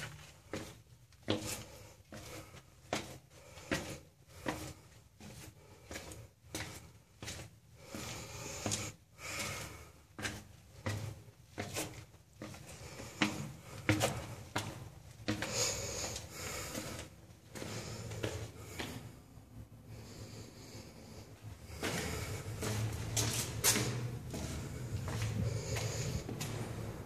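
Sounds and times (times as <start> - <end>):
footsteps on stone floor: 0.0 - 27.0.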